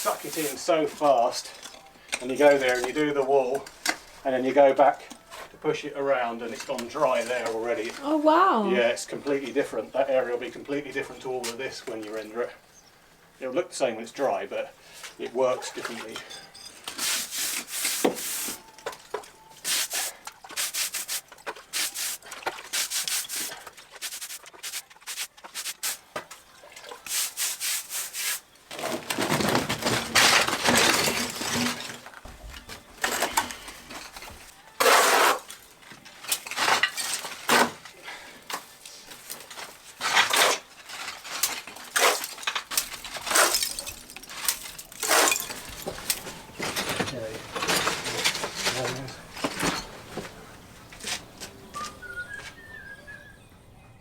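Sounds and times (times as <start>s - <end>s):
hand tools scraping and knocking stone: 0.0s - 5.6s, 6.2s - 8.0s, 15.0s - 26.4s, 27.0s - 52.0s.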